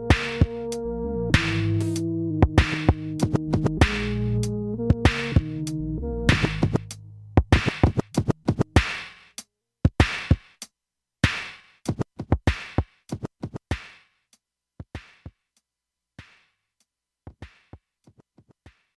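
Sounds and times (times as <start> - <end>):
hip hop drum-machine beat: 0.0 - 14.0, 14.8 - 15.6, 17.3 - 18.9.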